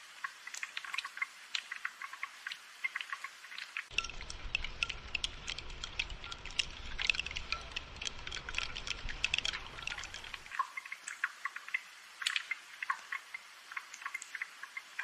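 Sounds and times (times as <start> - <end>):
raindrops pattering: 0.0 - 15.0.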